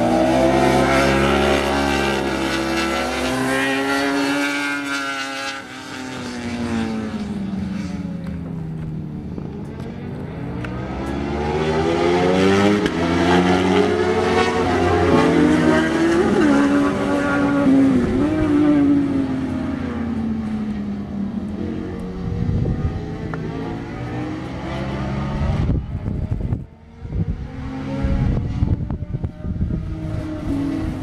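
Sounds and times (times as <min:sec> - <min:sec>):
motorcycles at high revs: 0:00.0 - 0:31.0.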